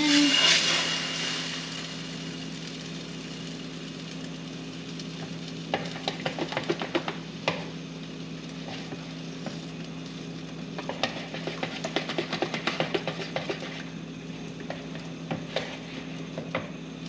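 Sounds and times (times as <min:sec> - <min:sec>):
bread sizzling in a pan: 0:00.0 - 0:17.0.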